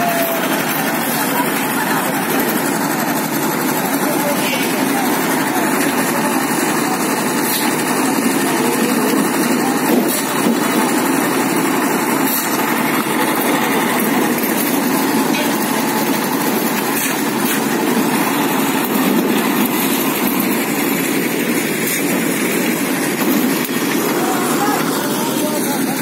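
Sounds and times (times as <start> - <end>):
concrete mixer running: 0.0 - 26.0.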